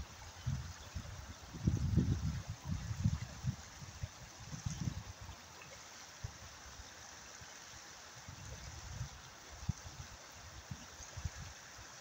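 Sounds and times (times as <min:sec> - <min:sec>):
river running over stones: 0:00.0 - 0:12.0.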